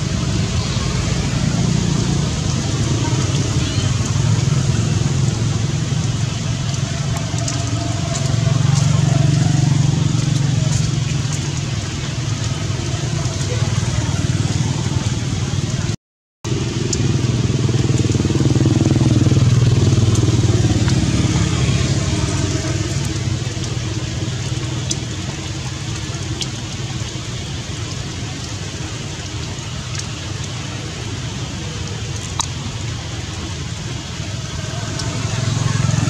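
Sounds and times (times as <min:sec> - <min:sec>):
engine low rumble: 0:00.0 - 0:36.0
falling rain hiss: 0:00.0 - 0:36.0.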